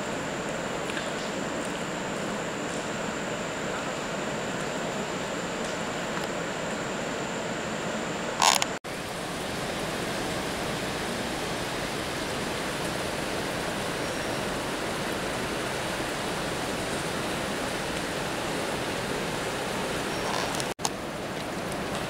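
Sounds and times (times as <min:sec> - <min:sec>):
distant waterfall roar: 0:00.0 - 0:22.0.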